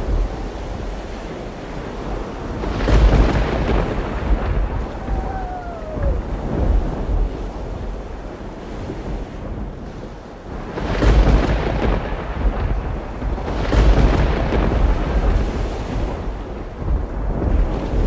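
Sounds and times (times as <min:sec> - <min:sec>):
surf breaking on rocks: 0:00.0 - 0:18.0
wind rumbling on microphone: 0:00.0 - 0:18.0.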